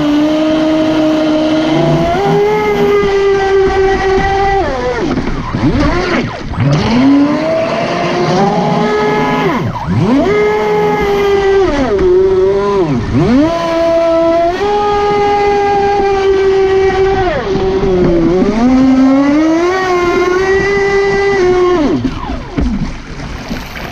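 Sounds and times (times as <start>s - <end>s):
speedboat motor whining: 0.0s - 23.9s.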